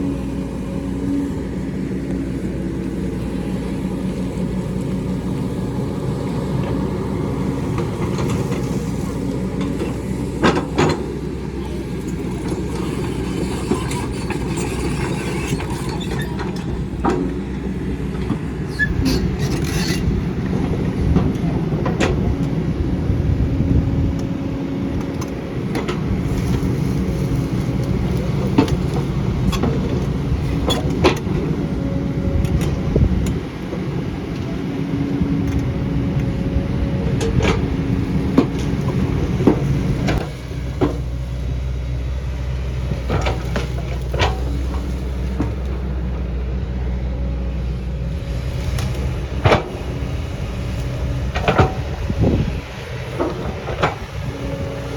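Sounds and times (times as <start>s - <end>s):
diesel excavator engine running: 0.0s - 54.9s.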